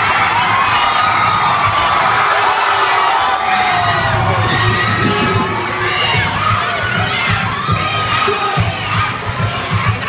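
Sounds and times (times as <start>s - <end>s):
crowd cheering and screaming: 0.0s - 10.0s.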